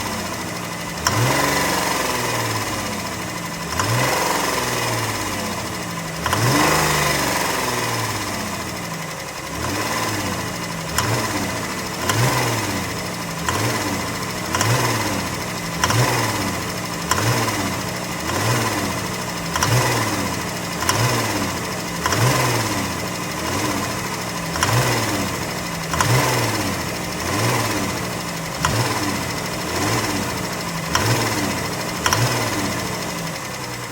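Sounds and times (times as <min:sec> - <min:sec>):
engine revving with rod knock: 0:00.9 - 0:02.8, 0:03.4 - 0:05.4, 0:06.1 - 0:08.3, 0:09.5 - 0:33.9.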